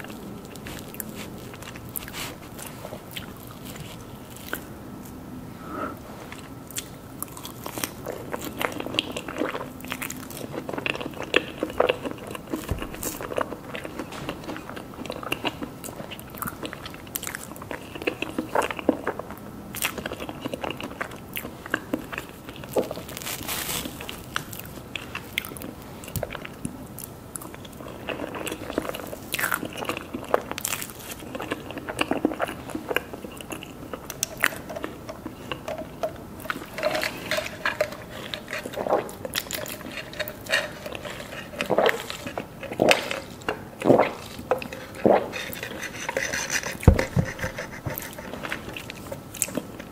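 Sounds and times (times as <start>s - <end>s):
person chewing crunchy cake: 0.0s - 49.9s.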